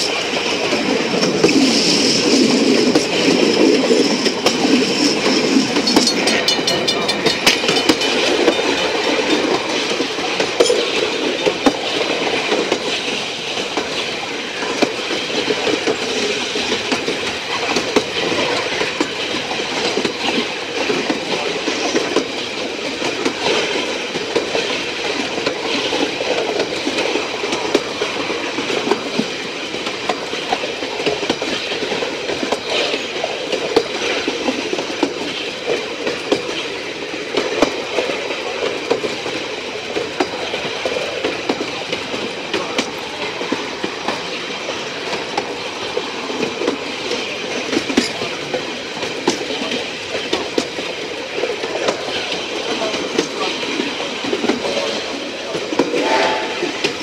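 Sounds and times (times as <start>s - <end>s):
train rumble: 0.0s - 57.0s
train wheels clicking over rails: 0.0s - 57.0s.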